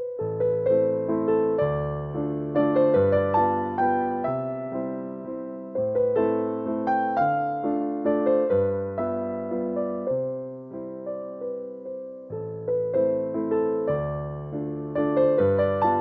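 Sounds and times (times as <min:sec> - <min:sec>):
electric piano playing soft chords: 0:00.0 - 0:16.0.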